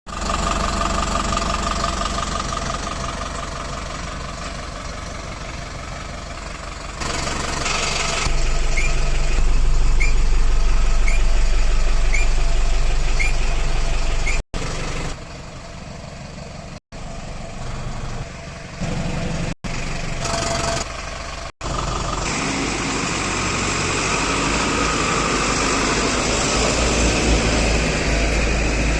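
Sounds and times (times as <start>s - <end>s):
truck diesel engine running: 0.1s - 28.9s.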